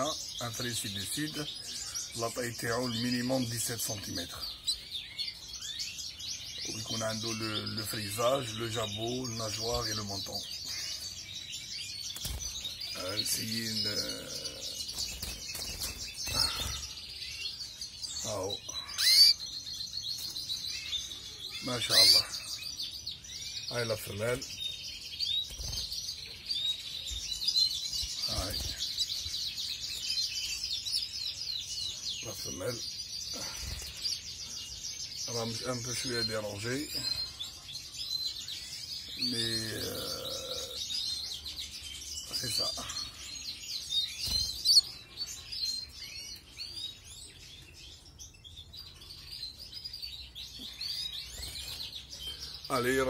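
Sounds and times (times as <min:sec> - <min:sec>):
canaries chirping and twittering: 0:00.0 - 0:53.0.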